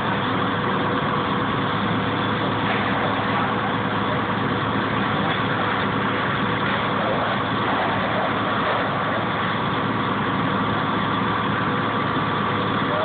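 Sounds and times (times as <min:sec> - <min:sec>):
fire engine droning: 0:00.0 - 0:13.0.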